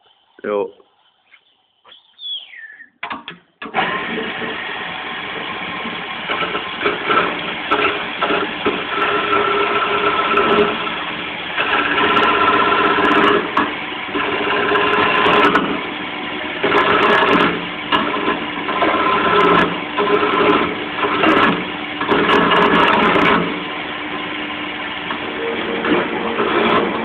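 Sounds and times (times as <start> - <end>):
wood lathe motor hum: 3.6 - 27.0
turning tool scraping wood: 3.8 - 27.0.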